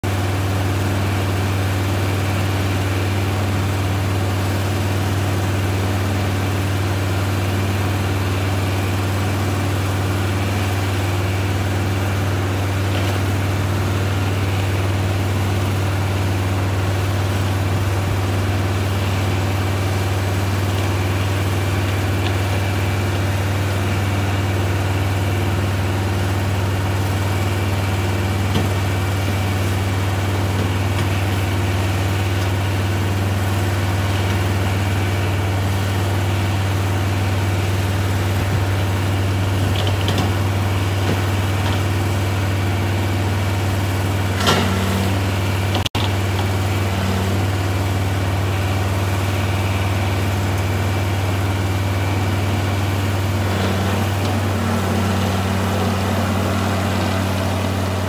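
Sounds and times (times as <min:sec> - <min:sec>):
diesel roller engine running: 0:00.0 - 0:58.0.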